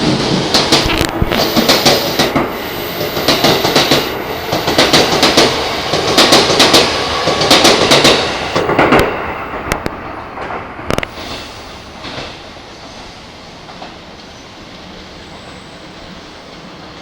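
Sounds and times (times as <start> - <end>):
train wheels clacking: 0.0 - 15.7
train rumble: 0.0 - 17.0.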